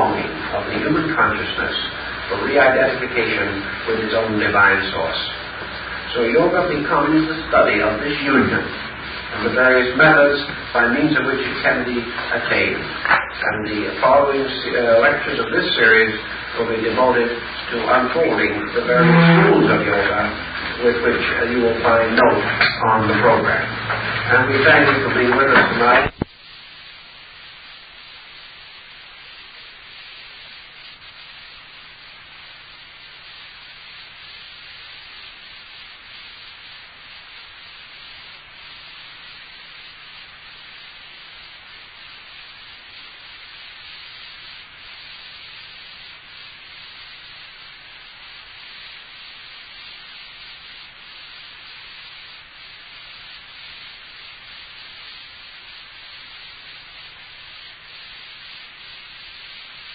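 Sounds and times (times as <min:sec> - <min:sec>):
tape hiss: 0:00.0 - 0:59.9.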